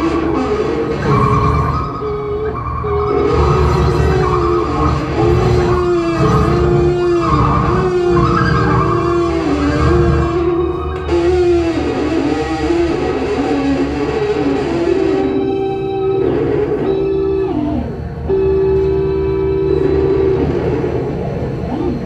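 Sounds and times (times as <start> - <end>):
dense low drone: 0.0 - 22.0
gliding held melody line: 0.0 - 22.0.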